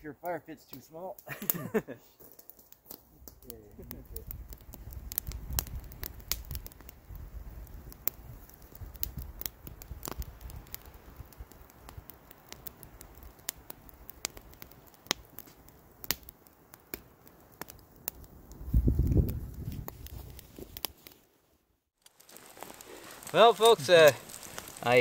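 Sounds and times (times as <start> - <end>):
campfire crackling: 0.0 - 25.0
sharp pops of fire: 0.7 - 21.3, 22.0 - 25.0.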